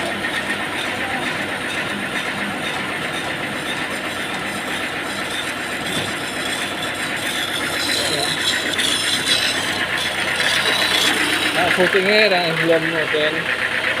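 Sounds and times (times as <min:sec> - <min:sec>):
engine-driven machine running: 0:00.0 - 0:14.0.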